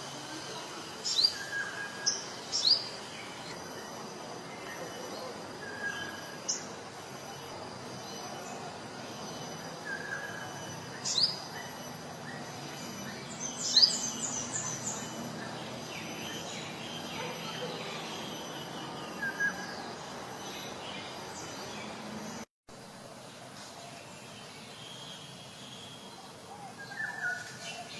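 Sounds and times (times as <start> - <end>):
outdoor background hiss: 0.0 - 27.9.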